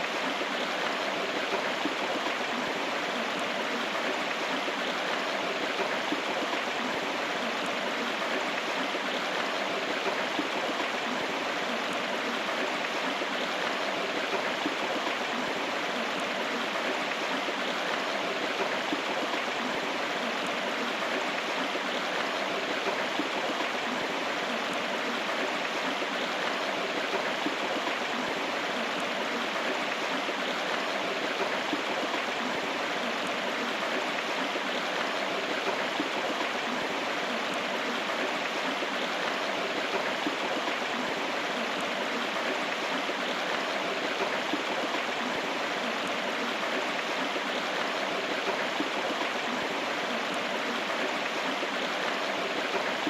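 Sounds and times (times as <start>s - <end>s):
river water rushing and gurgling: 0.0s - 53.0s.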